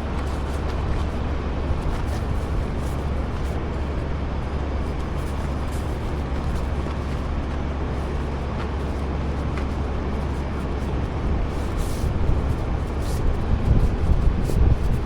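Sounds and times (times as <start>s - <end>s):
heavy truck rumbling: 0.0s - 15.0s.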